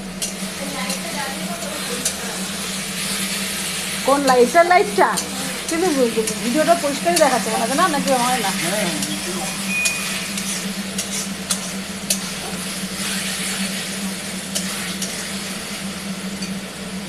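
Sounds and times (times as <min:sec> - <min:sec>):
food sizzling in a frying pan: 0:00.0 - 0:17.0
steady low hum: 0:00.0 - 0:17.0.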